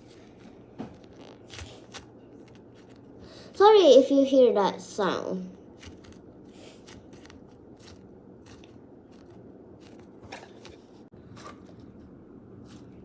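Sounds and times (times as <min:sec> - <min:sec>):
squishy toy crackling and rustling: 0:00.0 - 0:03.2, 0:05.6 - 0:13.0.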